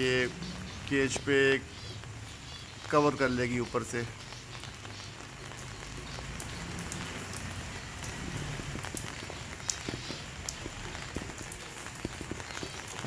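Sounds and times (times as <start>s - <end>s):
light rain dripping on leaves: 0.0s - 13.0s.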